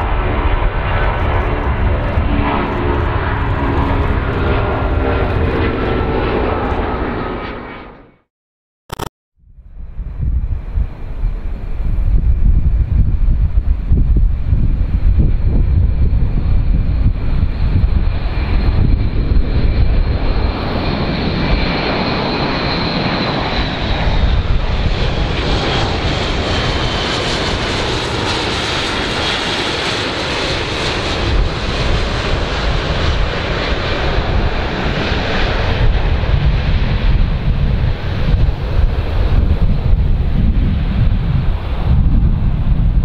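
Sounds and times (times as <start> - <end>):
turboprop aircraft droning overhead: 0.0 - 8.3, 9.4 - 43.0.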